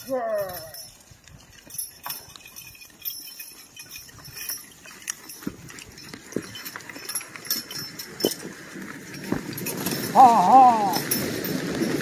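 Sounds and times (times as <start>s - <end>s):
hoof steps in snow: 0.0s - 10.2s
harness metal jingling: 0.0s - 12.0s.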